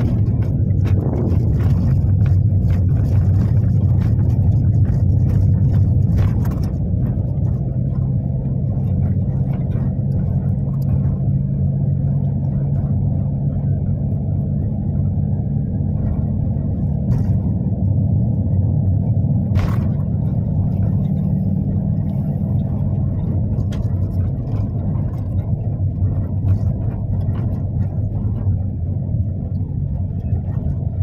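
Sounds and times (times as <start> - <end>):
sharp clicks and rattles: 0.0 - 31.0
vehicle engine and road noise: 0.0 - 31.0.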